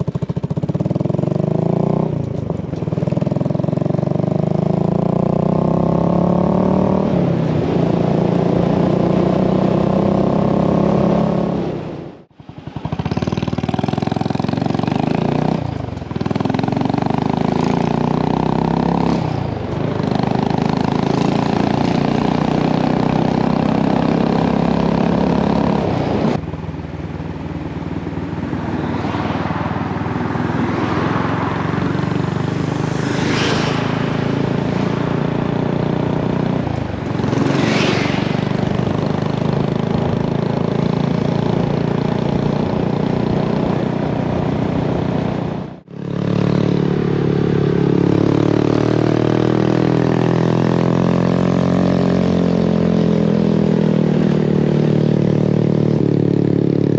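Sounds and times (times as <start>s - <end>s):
motorcycle engine accelerating: 0.0s - 56.9s
motorcycle engine pulling uphill: 0.0s - 56.9s.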